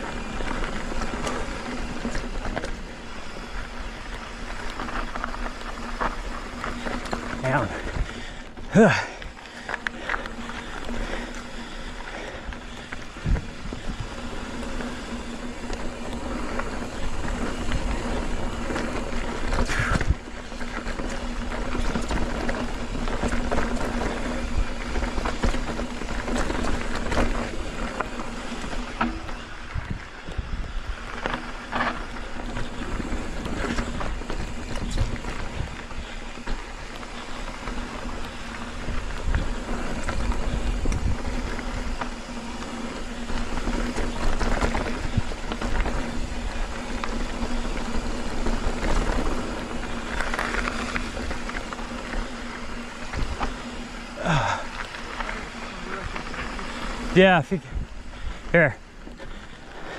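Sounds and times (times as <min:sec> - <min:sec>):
mountain bike rolling over dirt: 0:00.0 - 0:59.9
wind rumbling on microphone: 0:00.0 - 0:59.9.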